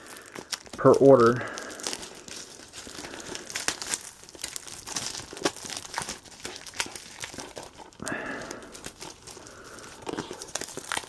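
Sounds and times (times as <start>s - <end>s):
plastic tearing: 0.0s - 11.0s
plastic wrapping crinkling: 0.0s - 11.0s.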